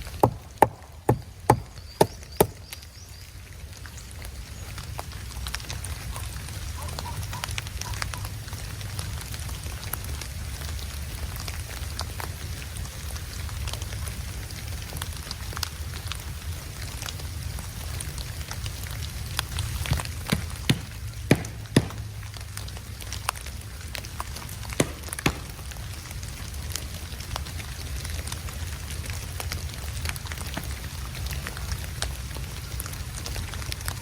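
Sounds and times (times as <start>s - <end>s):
snow ticking on surface: 0.0s - 34.0s.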